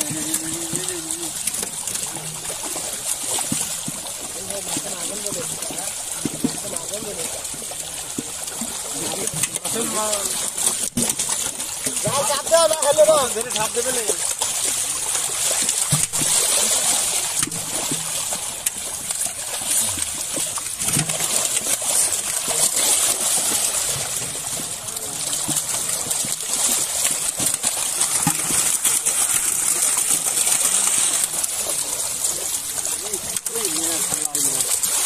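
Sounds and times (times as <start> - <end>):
lake water splashing and trickling: 0.0 - 35.0
sharp water splashes: 0.0 - 35.0.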